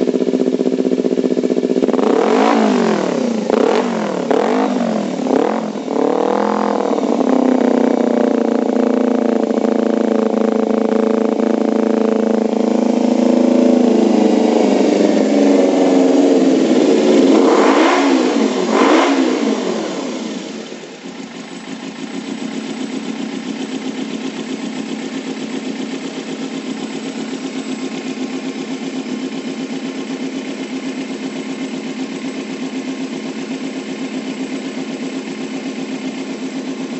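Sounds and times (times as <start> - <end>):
motorcycle engine revving and idling: 0.0 - 36.9.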